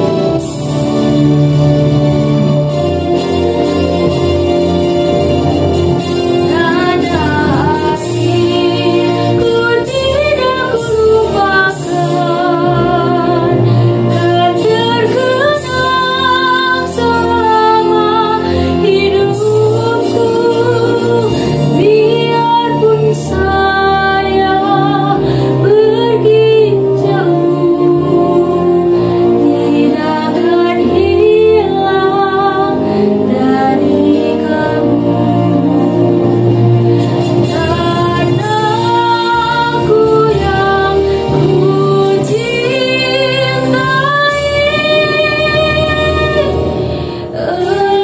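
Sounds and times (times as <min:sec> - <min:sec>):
instrumental accompaniment: 0:00.0 - 0:48.0
woman singing: 0:06.4 - 0:36.2, 0:37.4 - 0:46.6, 0:47.2 - 0:48.0.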